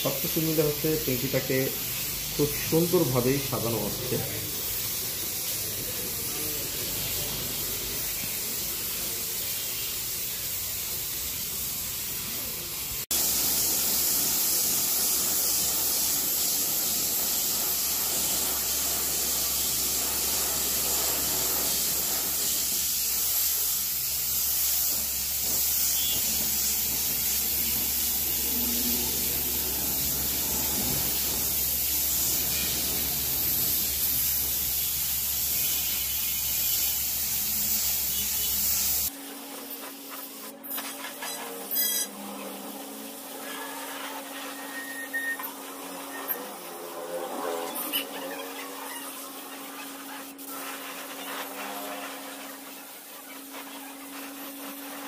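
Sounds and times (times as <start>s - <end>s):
paint spray gun hissing: 0.0s - 55.0s.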